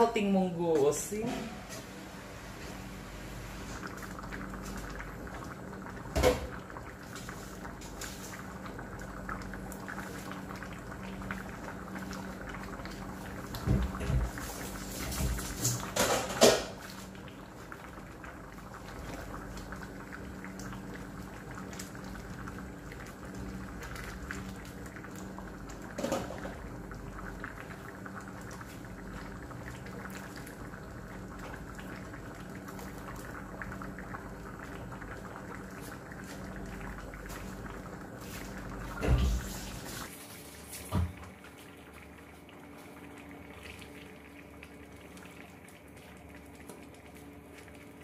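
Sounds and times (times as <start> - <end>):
stew bubbling in a pan: 0.0 - 48.0.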